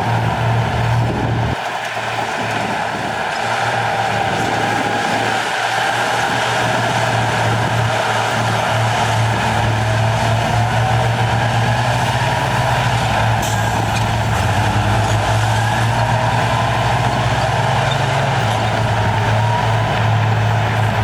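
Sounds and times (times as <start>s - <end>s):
heavy diesel engine working: 0.0s - 21.0s.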